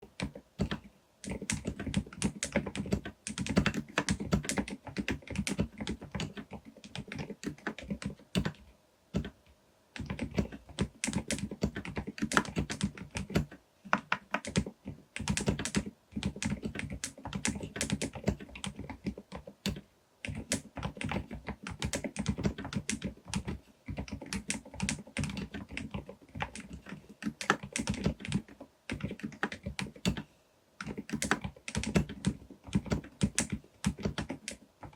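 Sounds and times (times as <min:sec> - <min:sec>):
mechanical keyboard typing: 0:00.1 - 0:09.4, 0:10.0 - 0:34.9.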